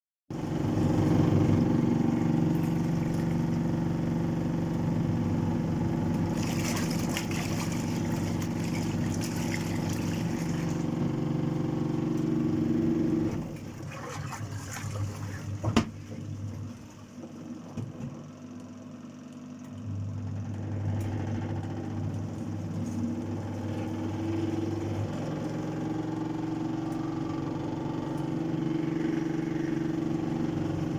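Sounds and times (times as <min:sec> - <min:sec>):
washing machine motor hum: 0:00.3 - 0:30.9.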